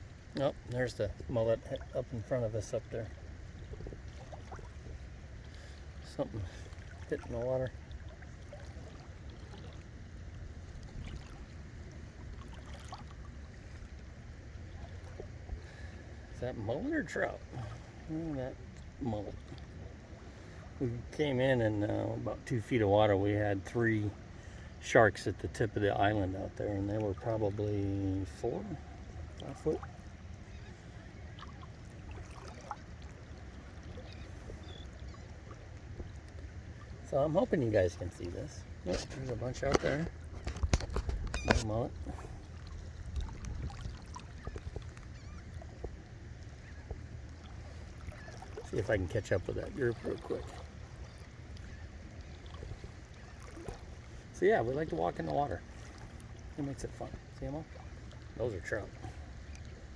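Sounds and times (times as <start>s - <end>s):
seawater sloshing around legs: 0.0s - 21.1s, 26.0s - 59.9s
light water splashes: 0.0s - 59.9s.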